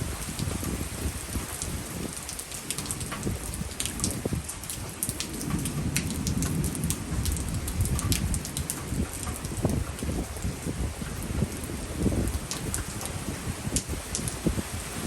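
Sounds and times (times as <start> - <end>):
rain drops hitting close by: 0.0 - 15.0
steady rain: 0.0 - 15.0.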